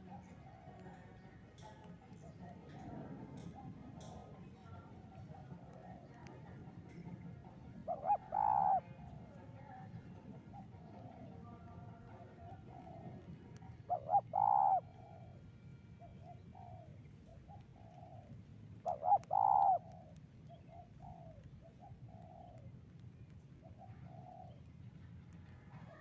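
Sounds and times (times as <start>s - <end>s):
doves cooing: 0.0s - 9.4s, 10.0s - 24.7s.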